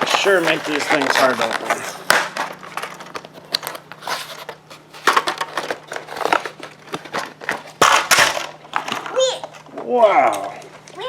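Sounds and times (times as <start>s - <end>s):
cardboard packaging tearing: 0.0s - 9.2s.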